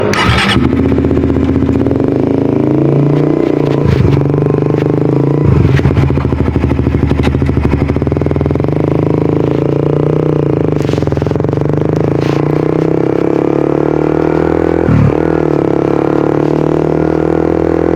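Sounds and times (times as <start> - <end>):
motorcycle engine and exhaust: 0.0 - 17.9.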